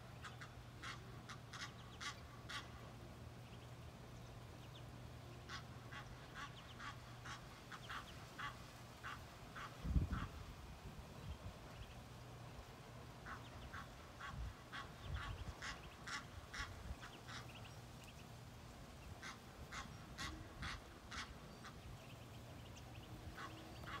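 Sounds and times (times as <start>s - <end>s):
birds calling: 0.0s - 10.6s, 11.2s - 24.0s.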